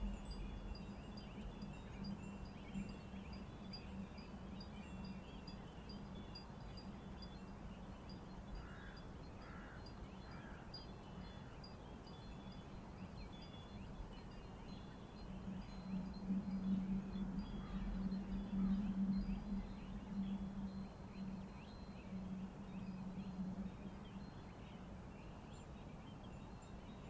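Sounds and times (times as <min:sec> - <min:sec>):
low steady hum: 0:00.0 - 0:27.0
wind bells tinkling: 0:00.0 - 0:27.0.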